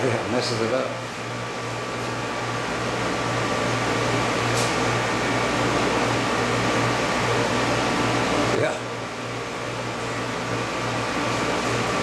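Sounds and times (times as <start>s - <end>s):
fan whir of moving air: 0.0s - 12.0s.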